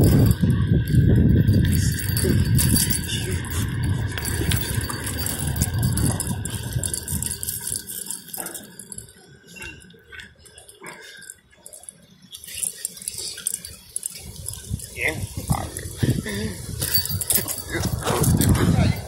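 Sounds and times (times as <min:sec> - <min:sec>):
wind rumbling on microphone: 0:00.0 - 0:09.8, 0:13.1 - 0:19.0
bicycle metallic clinks and rattles: 0:00.0 - 0:19.0.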